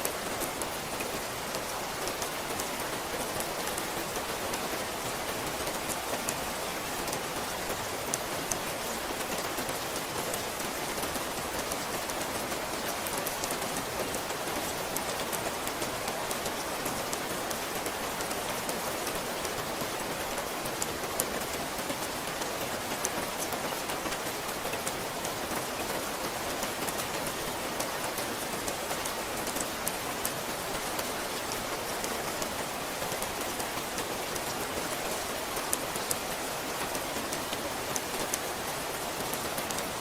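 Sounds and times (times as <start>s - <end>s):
raindrops ticking on a surface: 0.0s - 40.0s
steady rain: 0.0s - 40.0s.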